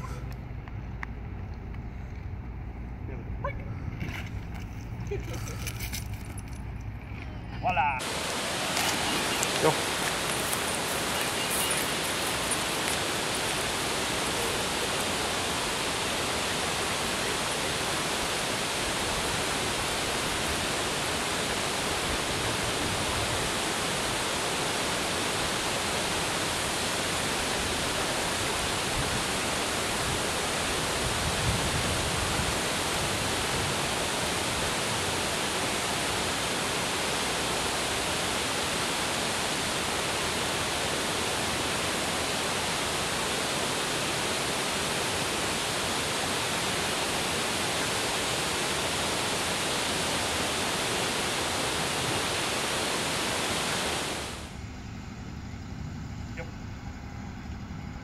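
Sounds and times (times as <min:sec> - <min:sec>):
water rushing over dam spillway: 0:07.6 - 0:54.5.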